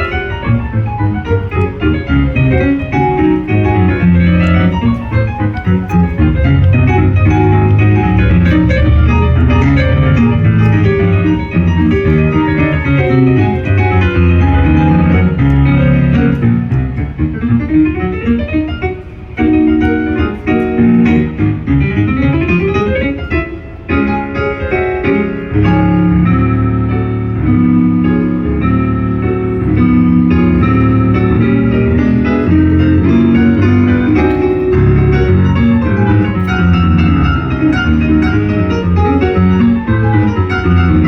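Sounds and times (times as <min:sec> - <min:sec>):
ragtime piano: 0:00.0 - 0:41.0.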